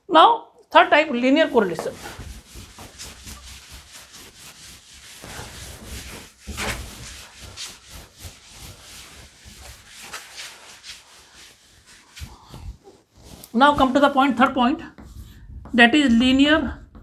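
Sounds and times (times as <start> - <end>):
duster wiping a chalkboard: 1.0 - 17.0.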